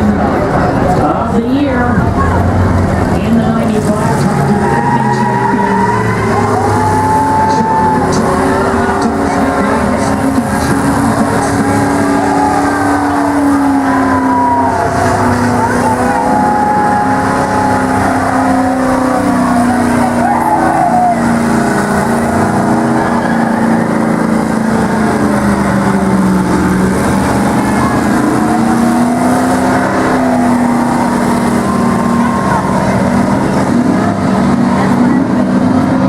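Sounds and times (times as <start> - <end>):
race car engines: 0.0 - 36.0.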